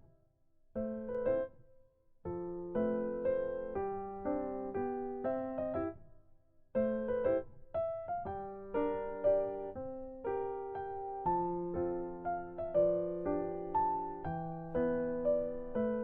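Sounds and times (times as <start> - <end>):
piano chords: 2.2 - 16.0.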